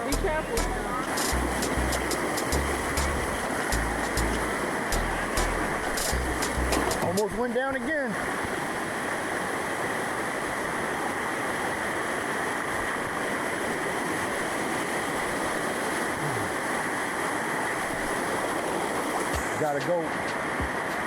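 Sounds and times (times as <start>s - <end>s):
waterfall rushing over rocks: 0.0s - 21.0s.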